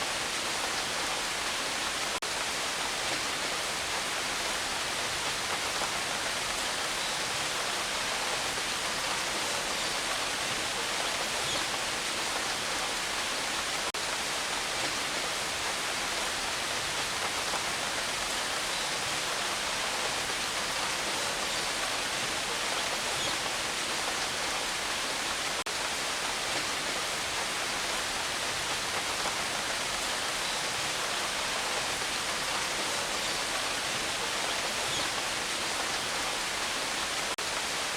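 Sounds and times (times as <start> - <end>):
rain falling steadily: 0.0 - 37.9.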